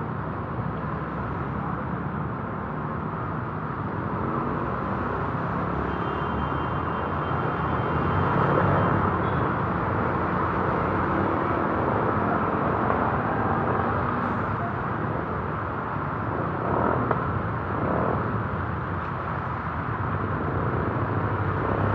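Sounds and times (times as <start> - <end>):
vehicle engines on flooded road: 1.0 - 21.9.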